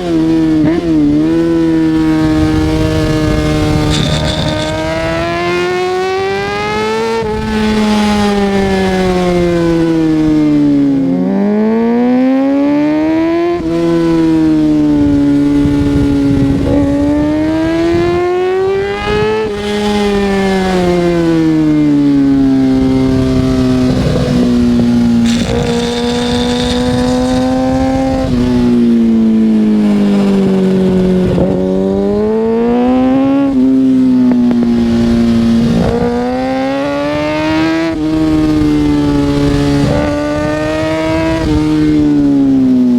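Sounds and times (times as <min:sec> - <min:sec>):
sportbike engine revving: 0:00.0 - 0:42.9.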